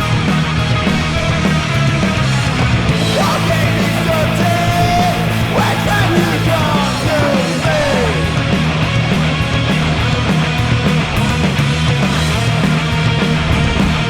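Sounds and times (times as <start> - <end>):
distorted guitar: 0.0 - 14.0.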